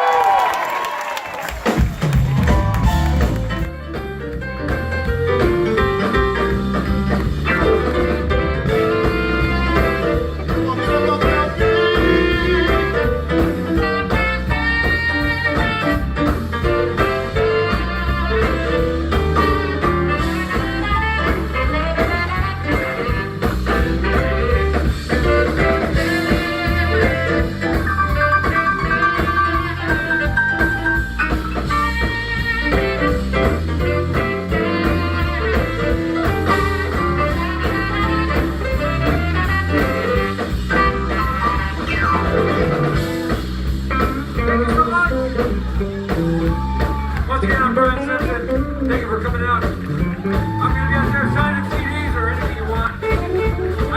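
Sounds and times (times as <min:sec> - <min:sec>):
jazz band playing: 0:01.4 - 0:53.9.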